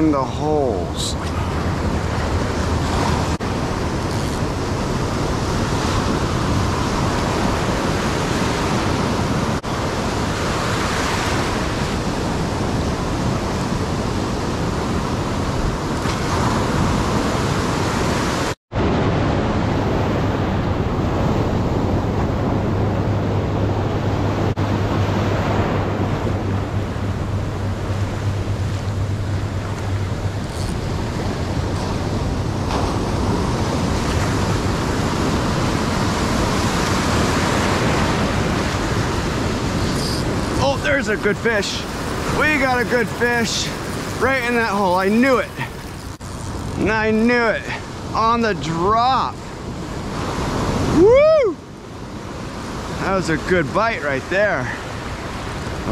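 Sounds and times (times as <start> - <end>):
ocean surf breaking and washing: 0.0 - 55.9.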